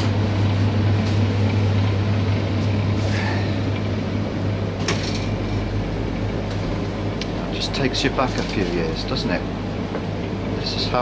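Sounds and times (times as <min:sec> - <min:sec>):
refrigerated cabinet humming: 0:00.0 - 0:11.0.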